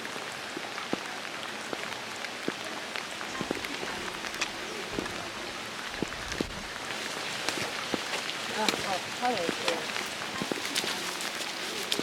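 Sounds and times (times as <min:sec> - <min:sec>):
raindrops ticking: 0:00.0 - 0:12.0
steady rain falling: 0:00.0 - 0:12.0.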